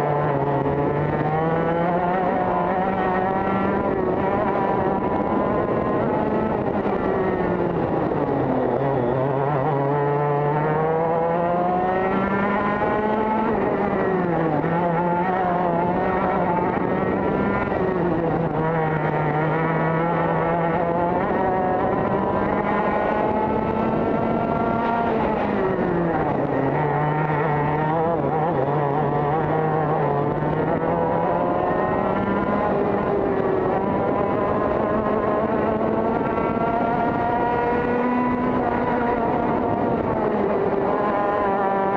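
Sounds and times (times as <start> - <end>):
kart engine at high revs: 0.0 - 41.9
wind noise: 0.0 - 41.9.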